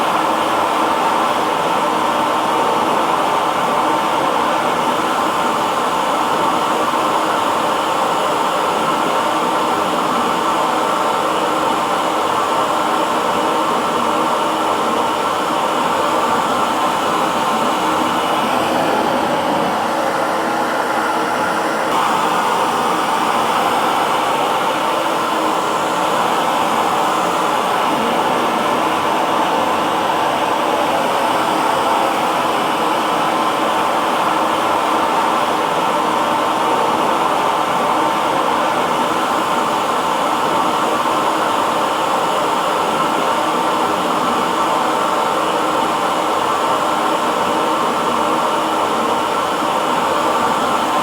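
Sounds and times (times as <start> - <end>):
hair dryer blowing: 0.0 - 51.0.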